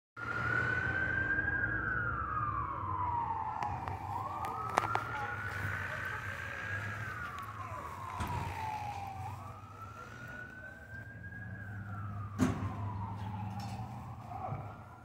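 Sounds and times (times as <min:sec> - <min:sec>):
emergency siren wailing: 0:00.2 - 0:15.0.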